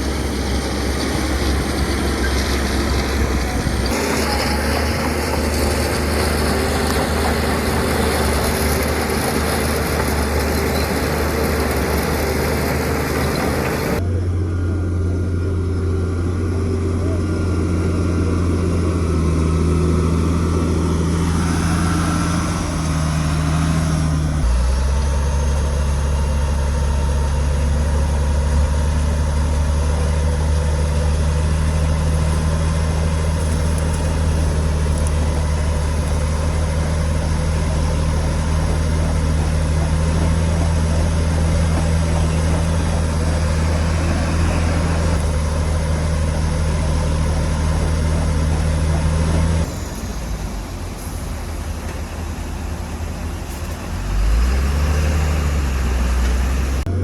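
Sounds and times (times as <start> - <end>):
diesel machinery engines humming: 0.0 - 57.0.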